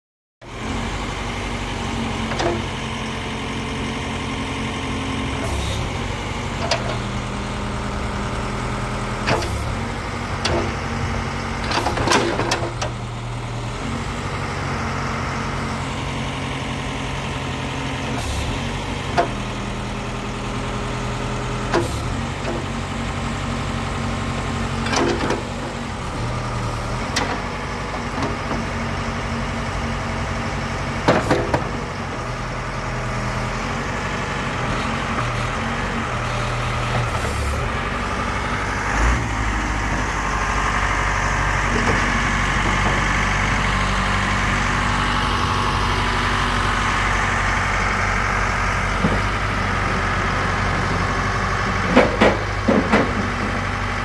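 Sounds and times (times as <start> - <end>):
diesel engine running: 0.4 - 54.0.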